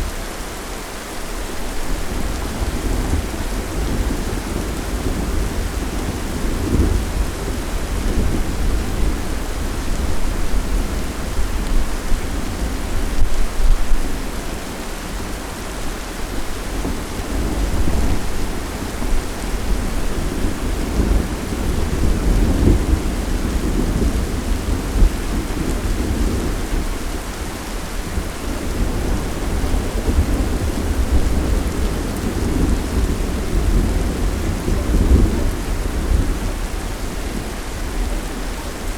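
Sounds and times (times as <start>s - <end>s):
steady rain: 0.0s - 38.9s
low rolling thunder: 1.7s - 38.9s.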